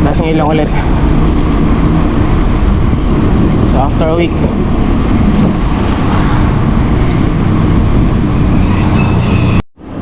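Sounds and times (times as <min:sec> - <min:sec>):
passing traffic road noise: 0:00.0 - 0:10.0.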